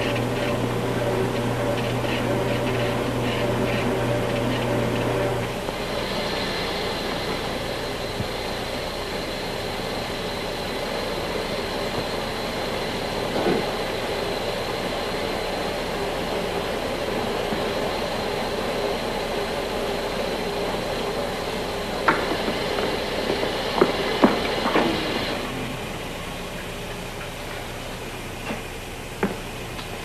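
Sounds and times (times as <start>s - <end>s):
washing machines humming: 0.0s - 30.0s.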